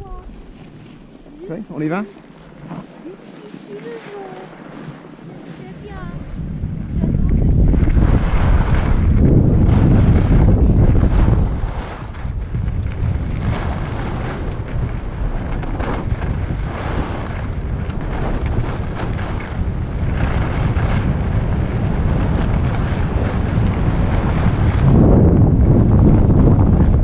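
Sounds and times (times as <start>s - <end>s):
ski edges scraping snow: 0.0s - 25.0s
wind buffeting microphone: 0.0s - 27.0s.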